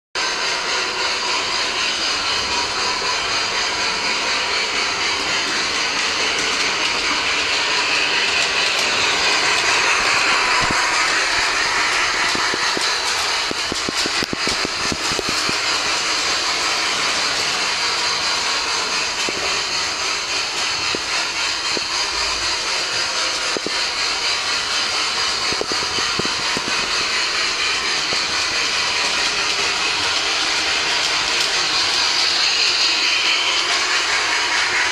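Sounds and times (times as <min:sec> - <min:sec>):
model train motor whirring: 0:00.2 - 0:34.9
wheels clicking over rail joints: 0:00.2 - 0:34.9.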